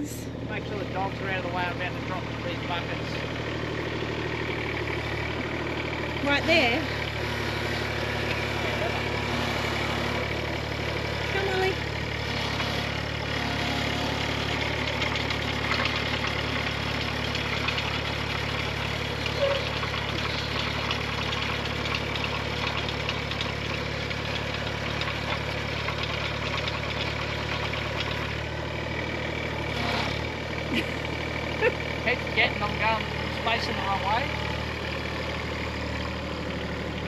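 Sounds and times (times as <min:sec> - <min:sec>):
diesel excavator engine running: 0:00.0 - 0:37.0.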